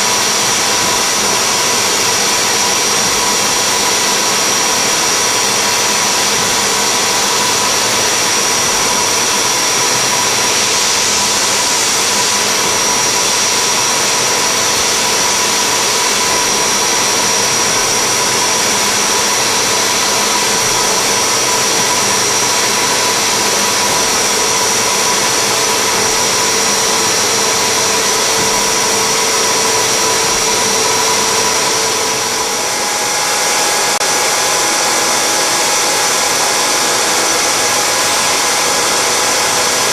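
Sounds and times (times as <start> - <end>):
cold-air blast hissing: 0.0 - 39.9.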